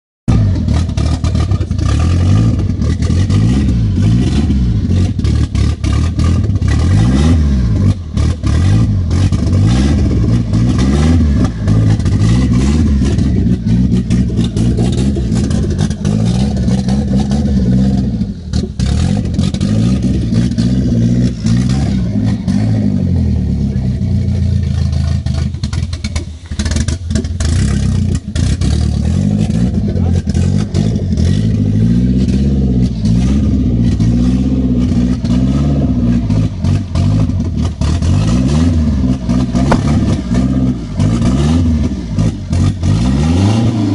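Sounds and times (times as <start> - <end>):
turbocharged engine revving: 0.3 - 43.9.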